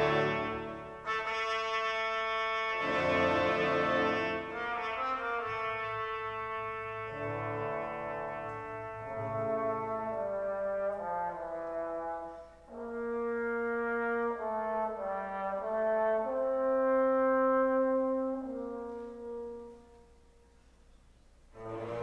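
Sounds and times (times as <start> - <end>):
classical brass music over loudspeakers: 0.0 - 20.8, 21.4 - 22.0.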